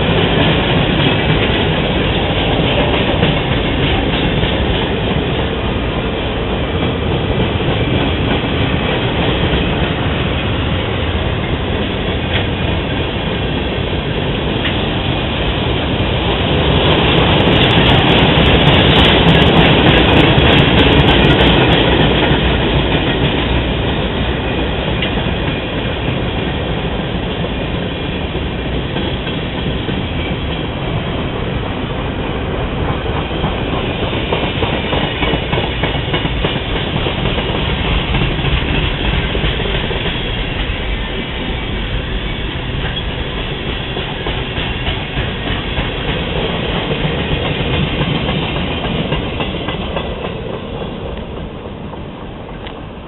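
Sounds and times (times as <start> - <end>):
train wheels clattering on rails: 0.0 - 53.0.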